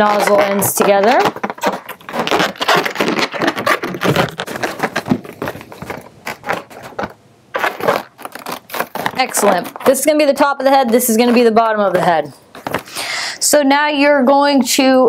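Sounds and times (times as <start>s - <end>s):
balloons rubbing scratchily: 0.0s - 13.0s.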